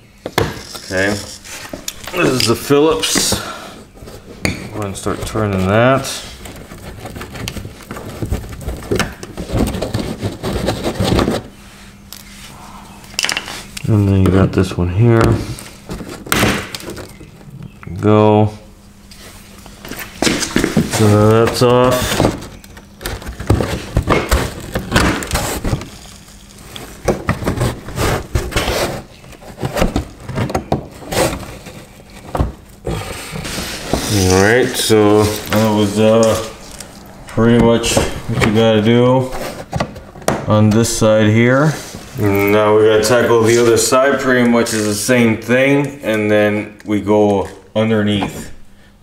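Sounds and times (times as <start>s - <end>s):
faint low hum: 0.0s - 49.0s
plastic liner scraping and rustling: 0.4s - 11.6s, 13.5s - 17.2s, 19.2s - 45.0s.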